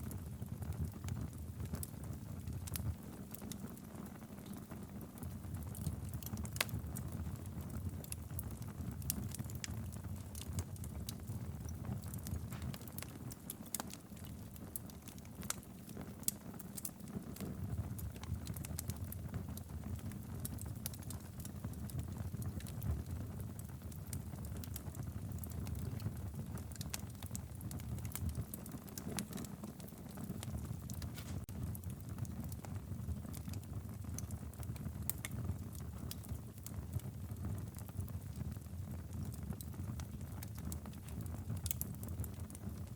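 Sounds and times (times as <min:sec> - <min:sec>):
fire crackling and popping: 0:00.0 - 0:42.9
wood fire rumble: 0:00.0 - 0:42.9.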